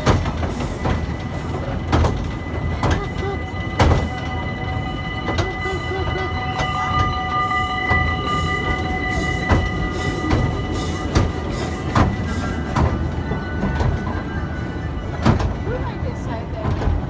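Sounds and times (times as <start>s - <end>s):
high wheel squeal: 0.0s - 17.0s
train rumbling on rails: 0.0s - 17.0s
wheels clacking: 0.0s - 17.0s.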